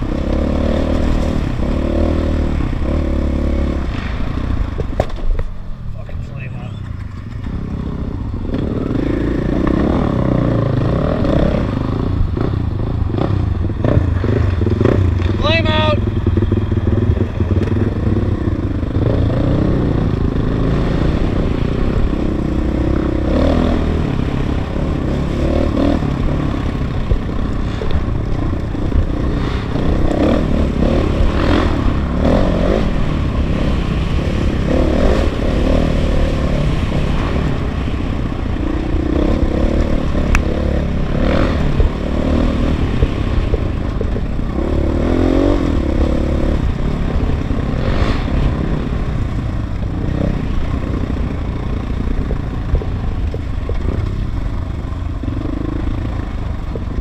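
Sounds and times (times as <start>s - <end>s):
motorcycle engine revving: 0.0s - 5.5s, 6.6s - 57.0s.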